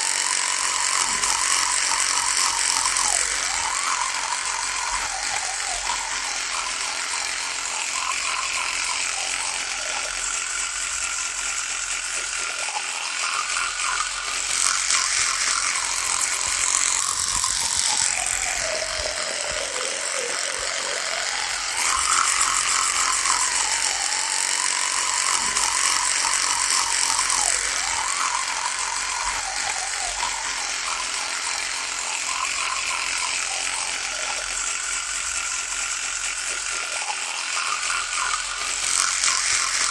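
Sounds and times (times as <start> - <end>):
electric toothbrush buzzing: 0.0 - 39.9.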